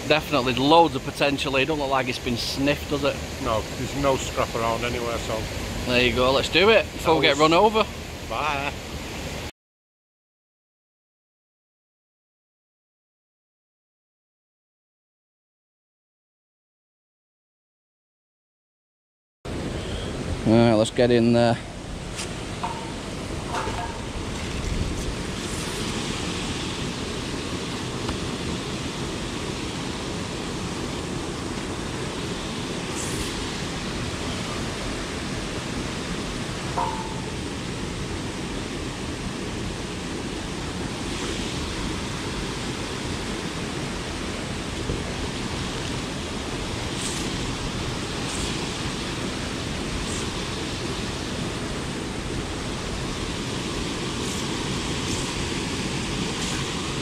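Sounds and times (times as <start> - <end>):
churning foaming water: 0.0 - 9.4, 19.5 - 57.0.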